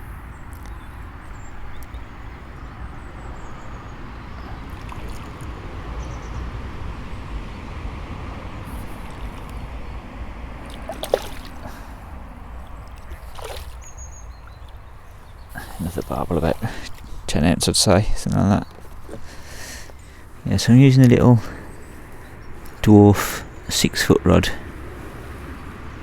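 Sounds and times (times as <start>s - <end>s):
water splashing and sloshing: 0.0s - 22.9s.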